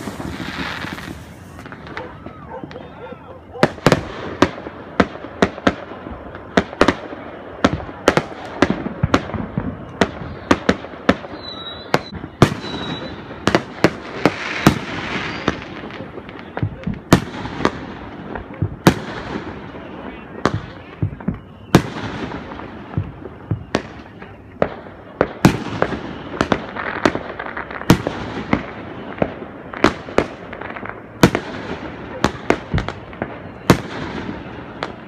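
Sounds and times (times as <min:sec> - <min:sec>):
fireworks whistles: 0:00.0 - 0:04.6, 0:05.5 - 0:35.0
fireworks bangs: 0:00.0 - 0:35.0.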